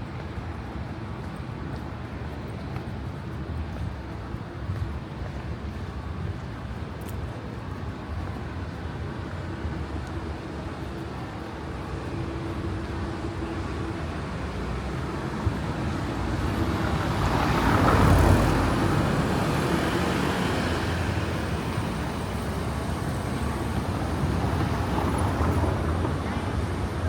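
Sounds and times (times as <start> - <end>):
street traffic noise: 0.0 - 27.0.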